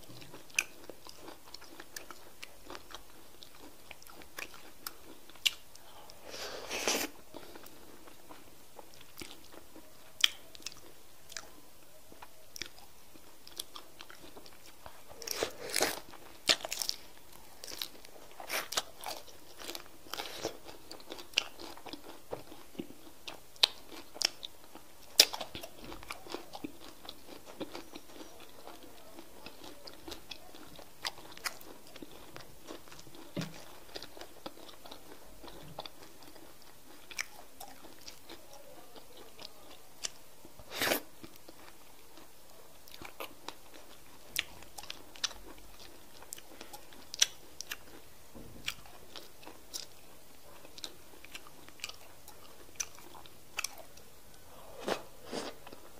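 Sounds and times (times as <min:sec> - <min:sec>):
chewing and lip-smacking: 0:00.0 - 0:05.9, 0:07.3 - 0:38.4, 0:41.2 - 0:48.0, 0:48.6 - 0:54.1.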